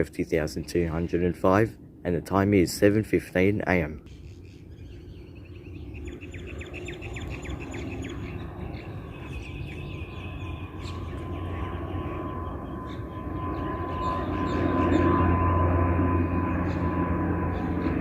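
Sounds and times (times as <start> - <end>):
small birds chirping: 0.0 - 1.7, 4.0 - 18.0
steady whine: 0.0 - 18.0
turboprop plane rumble: 0.0 - 18.0.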